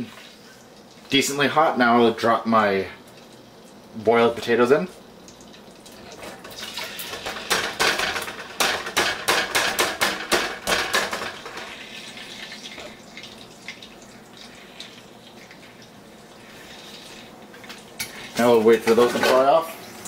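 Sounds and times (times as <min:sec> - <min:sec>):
potatoes crackling in hot oil: 0:02.2 - 0:20.0.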